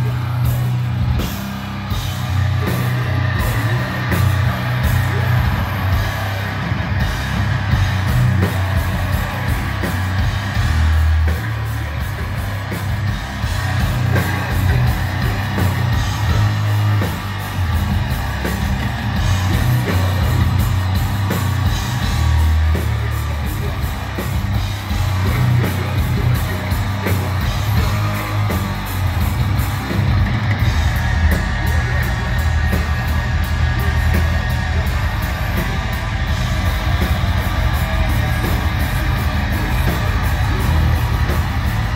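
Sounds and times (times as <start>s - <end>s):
bass guitar: 0.0s - 41.9s
distorted electric guitars: 0.0s - 41.9s
drum kit: 0.0s - 41.9s.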